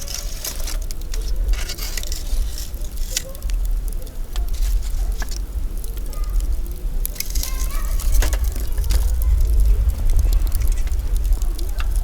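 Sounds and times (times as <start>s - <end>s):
campfire crackling: 0.0s - 12.0s
low steady rumble: 0.0s - 12.0s.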